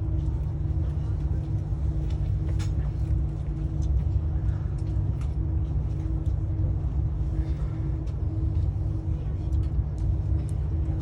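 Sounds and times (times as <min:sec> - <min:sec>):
faint hum: 0:00.0 - 0:11.0
train rumbling at platform: 0:00.0 - 0:11.0.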